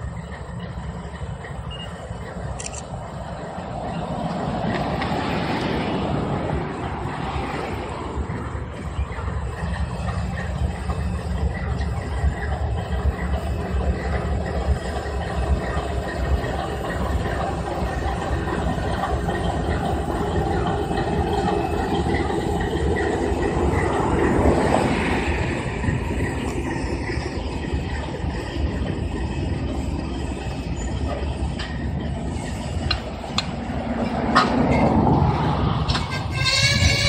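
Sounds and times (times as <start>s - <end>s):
diesel locomotives rumbling past: 0.0s - 37.0s.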